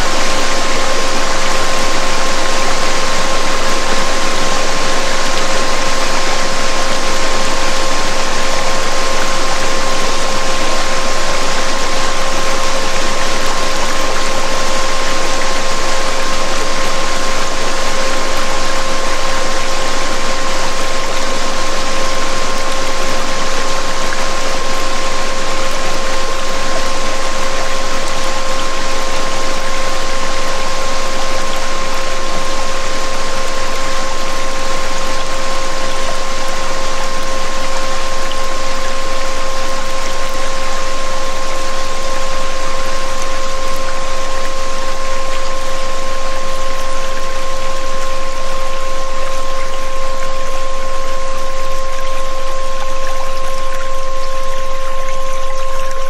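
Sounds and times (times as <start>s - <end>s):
waterfall rushing: 0.0s - 47.4s
continuous electronic tone: 0.0s - 56.0s.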